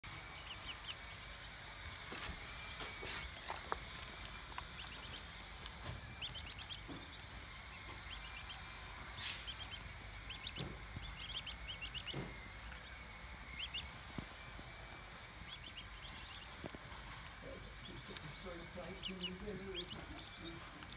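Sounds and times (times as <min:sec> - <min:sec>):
ducklings peeping: 0:00.1 - 0:20.9.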